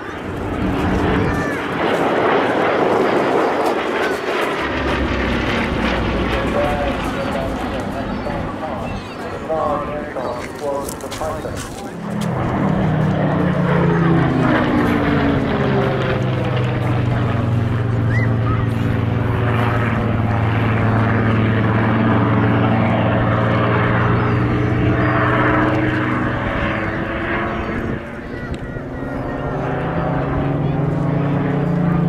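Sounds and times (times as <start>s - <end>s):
piston aircraft engines droning overhead: 0.0s - 32.0s.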